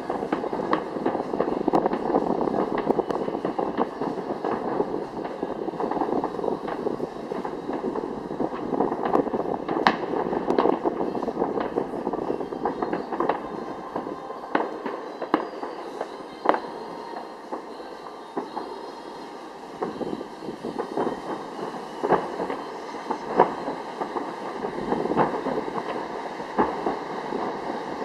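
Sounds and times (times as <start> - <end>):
firework crackle: 0.0 - 28.0.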